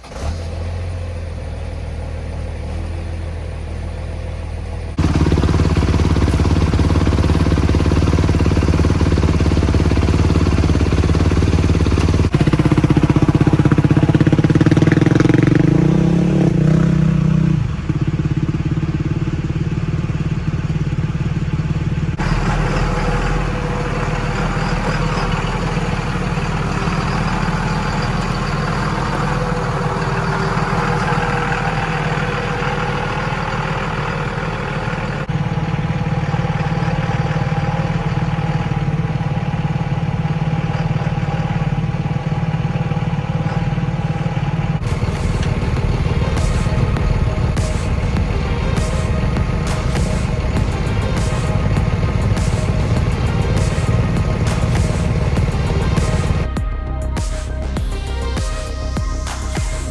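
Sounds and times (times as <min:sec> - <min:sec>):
engine revving: 0:00.0 - 0:59.9
vehicle engines running: 0:00.0 - 0:59.9.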